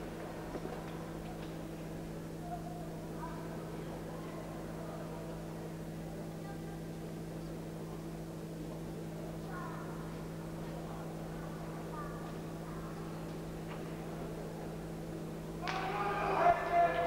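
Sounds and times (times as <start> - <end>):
faint indistinct voices: 0.0 - 17.0
low electrical hum and hiss: 0.0 - 17.0.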